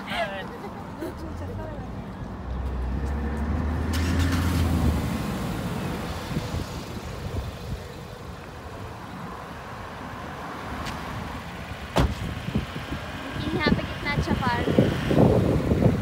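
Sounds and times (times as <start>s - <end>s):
motor vehicle rumbling: 0.0s - 16.0s
road traffic noise: 0.0s - 16.0s.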